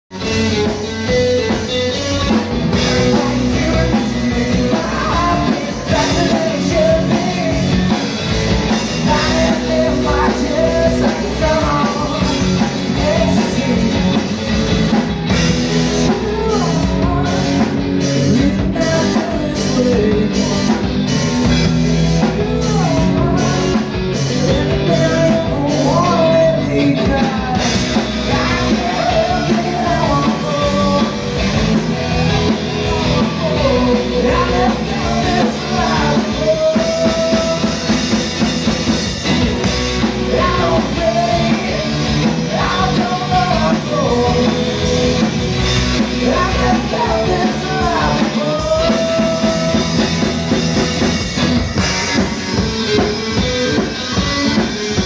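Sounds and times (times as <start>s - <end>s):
live rock band playing: 0.1s - 55.0s
person singing: 0.6s - 38.7s, 39.3s - 51.0s.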